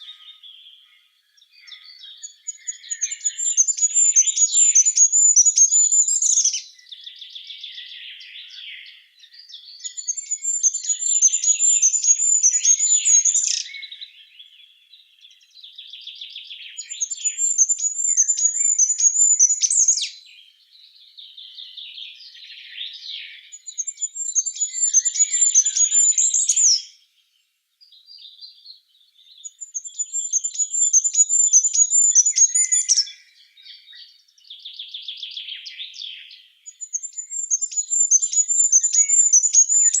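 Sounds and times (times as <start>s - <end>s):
songbird trilling: 0.0s - 20.3s, 21.3s - 27.0s, 29.2s - 40.0s
soft bird chirping: 0.0s - 40.0s.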